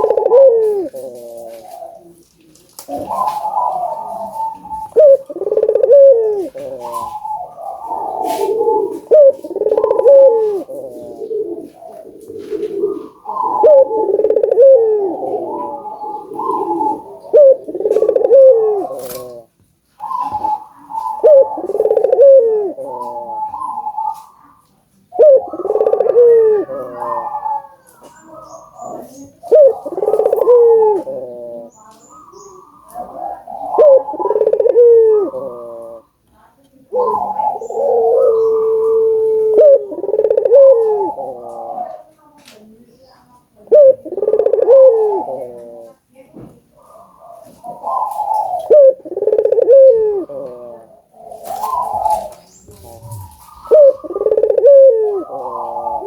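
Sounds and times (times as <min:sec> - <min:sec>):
doves cooing: 0:00.0 - 0:36.2, 0:36.8 - 0:56.0.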